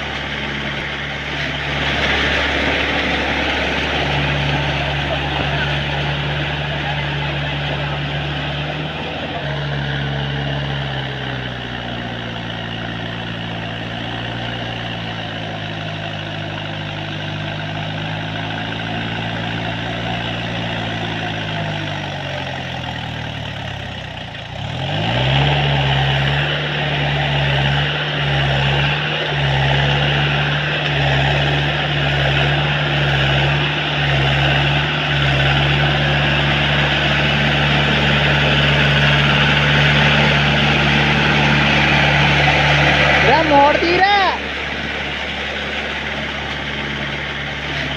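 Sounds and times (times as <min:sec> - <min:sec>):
tractor engine revving: 0:00.0 - 0:47.9.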